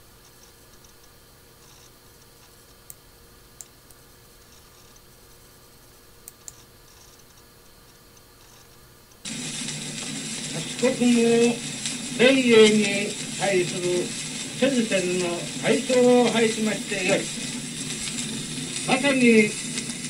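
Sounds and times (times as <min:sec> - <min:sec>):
old radio recording hiss and hum: 0:00.0 - 0:20.0.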